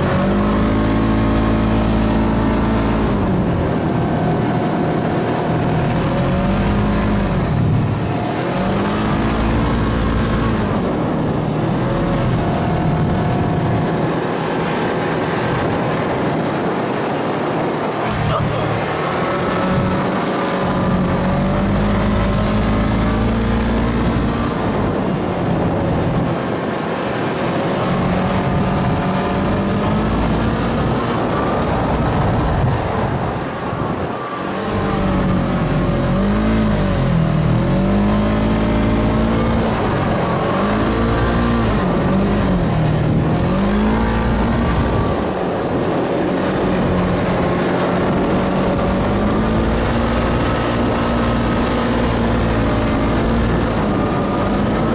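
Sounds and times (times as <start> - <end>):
engine revving: 0.0 - 54.9.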